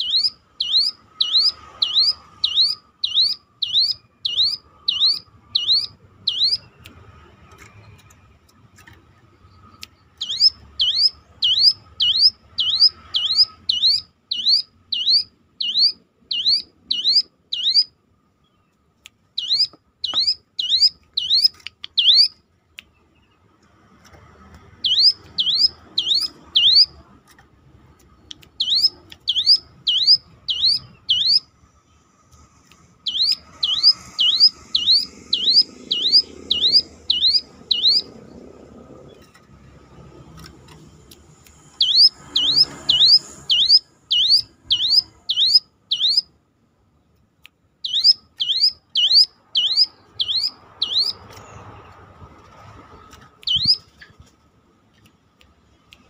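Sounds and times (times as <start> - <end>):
bird singing high swooping notes: 0.0 - 7.0, 9.2 - 18.7, 19.3 - 22.4, 24.7 - 27.0, 28.2 - 32.1, 32.8 - 46.4, 47.8 - 52.0, 52.6 - 54.2.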